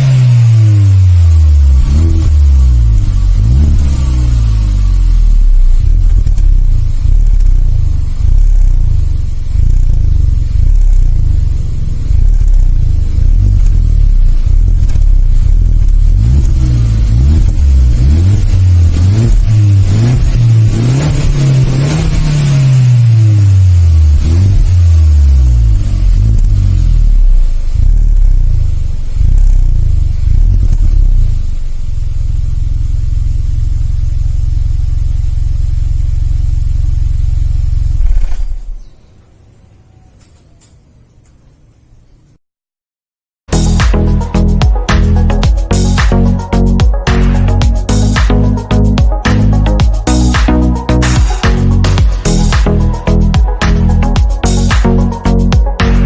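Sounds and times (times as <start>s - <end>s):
car engine revving: 0.0s - 40.0s, 43.5s - 56.0s
car engine idling: 0.0s - 42.0s, 43.5s - 56.0s.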